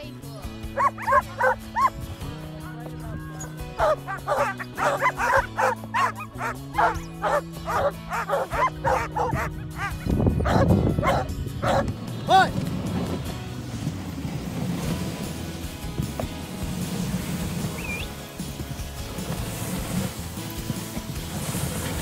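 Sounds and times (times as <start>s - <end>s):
background music with bass line: 0.0s - 22.0s
sled dogs barking and yipping: 0.6s - 2.4s, 3.0s - 22.0s.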